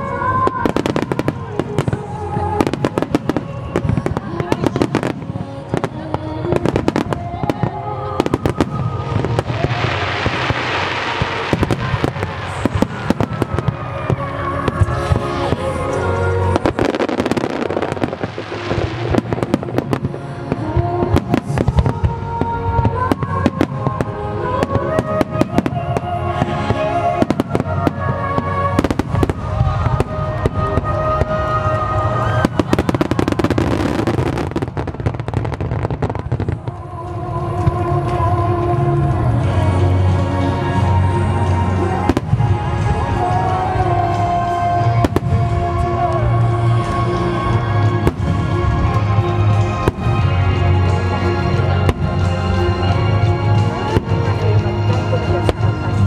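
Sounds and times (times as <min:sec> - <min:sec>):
fireworks bangs and crackling: 0:00.0 - 0:56.0
slow sung ballad: 0:00.0 - 0:56.0.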